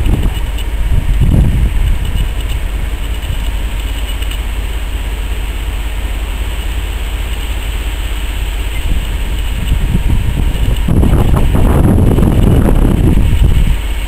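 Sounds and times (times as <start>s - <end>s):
steam locomotive rumbling: 0.0s - 14.0s.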